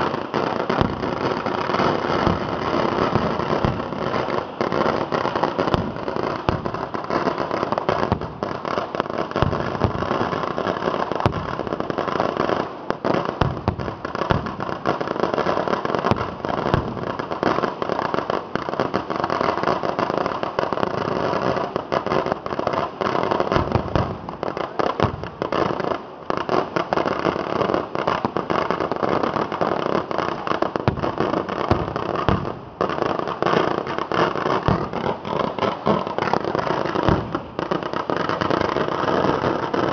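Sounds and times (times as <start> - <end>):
firecrackers banging and crackling: 0.0 - 39.9.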